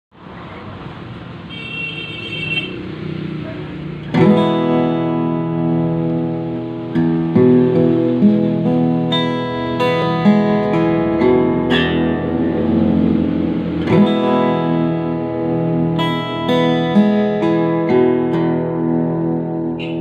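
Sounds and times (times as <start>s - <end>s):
acoustic guitar chords and notes: 1.7s - 20.0s.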